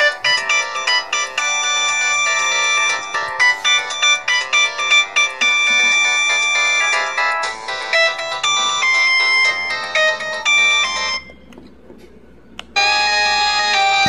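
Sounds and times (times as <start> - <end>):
polyphonic phone ringtone: 0.0 - 11.4, 12.8 - 14.0.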